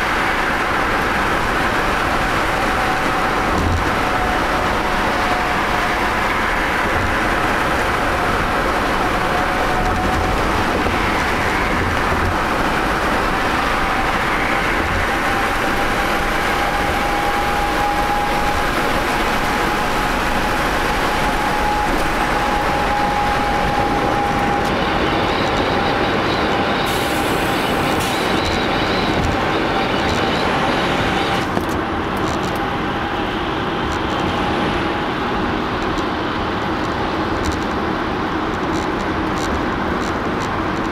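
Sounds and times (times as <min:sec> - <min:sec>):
car road and tyre noise: 0:00.0 - 0:40.9
thin steady whine: 0:00.0 - 0:40.9.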